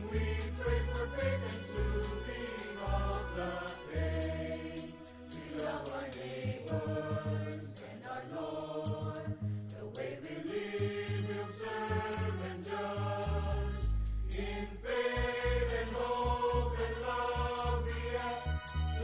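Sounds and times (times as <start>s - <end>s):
bass: 0.0s - 19.0s
choir singing: 0.0s - 19.0s.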